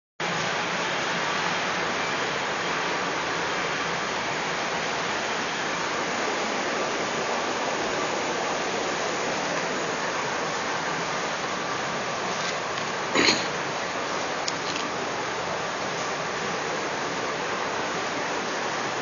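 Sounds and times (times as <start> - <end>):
steady hiss: 0.2 - 19.0.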